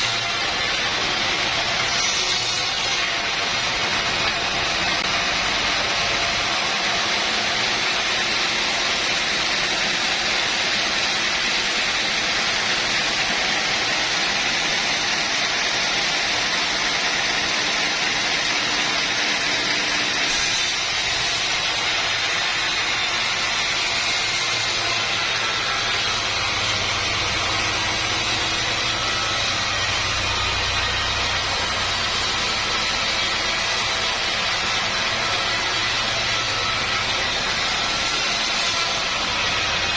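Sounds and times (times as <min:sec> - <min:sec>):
sawmill saw and machinery running: 0:00.0 - 0:39.9.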